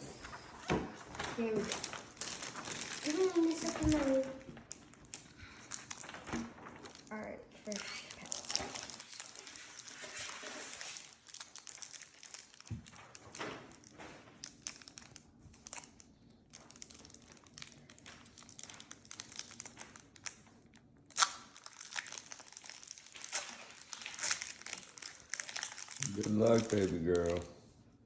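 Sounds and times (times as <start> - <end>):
foil wrapper crinkling: 0.2 - 27.6.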